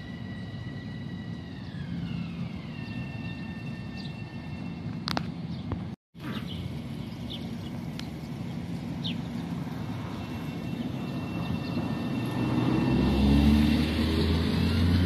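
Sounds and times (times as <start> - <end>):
low rumble of electric train: 0.0 - 15.0.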